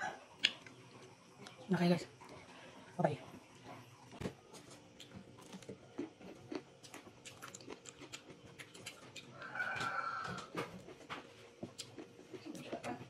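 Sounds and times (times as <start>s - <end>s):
wet chewing of fruit: 0.4s - 1.6s, 3.4s - 13.0s.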